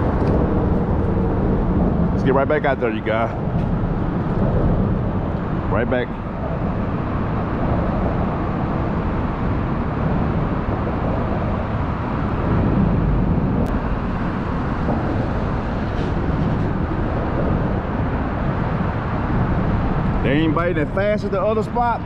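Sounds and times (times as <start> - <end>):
low rushing background noise: 0.0 - 22.0.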